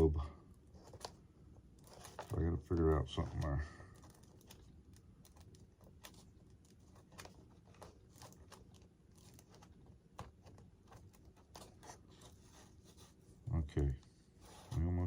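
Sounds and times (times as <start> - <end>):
small clicks of handling wiring: 0.5 - 13.0.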